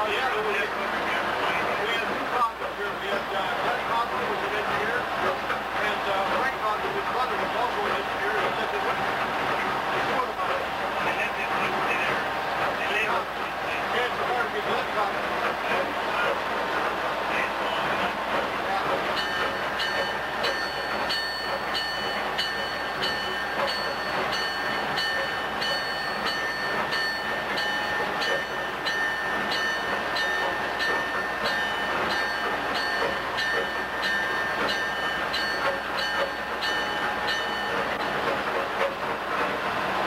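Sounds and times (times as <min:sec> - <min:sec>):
locomotive bell ringing: 0:00.0 - 0:16.4, 0:17.3 - 0:38.9
locomotive engine running: 0:00.0 - 0:40.0
train wheel noise: 0:00.0 - 0:40.0.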